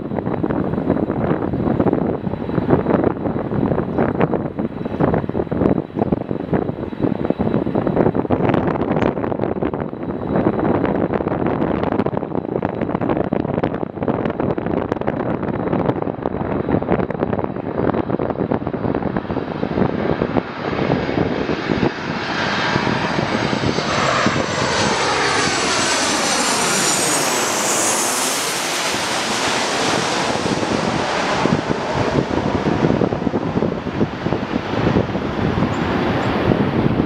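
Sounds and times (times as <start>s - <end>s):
jet airliner engine noise: 0.0s - 37.0s
wind buffeting microphone: 0.0s - 37.0s.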